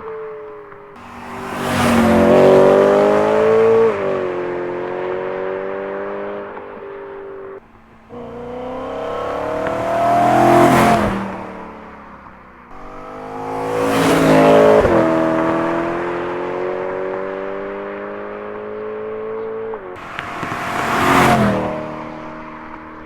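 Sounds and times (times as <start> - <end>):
car engine accelerating past: 0.9 - 23.0.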